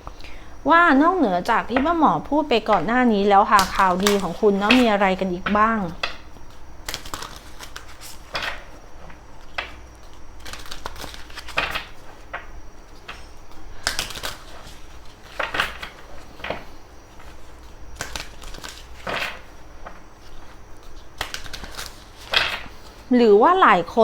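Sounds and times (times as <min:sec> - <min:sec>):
cards snapping and rustling: 0:02.6 - 0:23.1.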